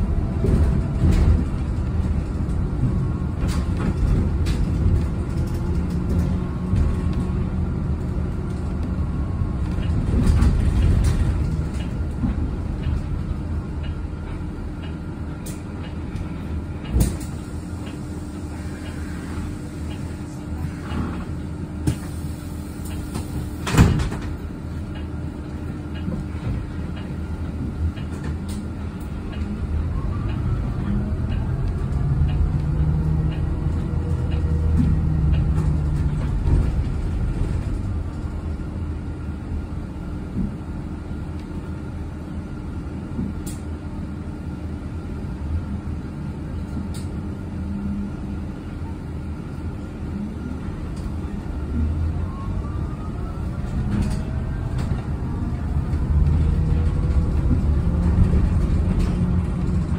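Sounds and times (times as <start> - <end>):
bus running and rattling: 0.0 - 59.9.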